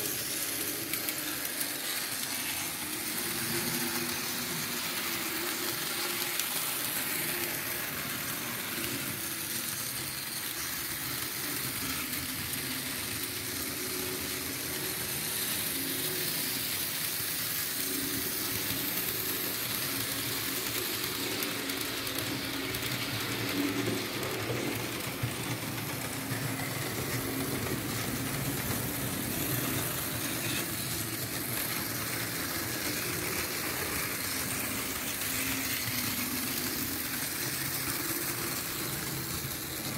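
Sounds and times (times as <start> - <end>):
model train motor whir: 0.0 - 39.9
wheels rolling on rails: 0.0 - 39.9.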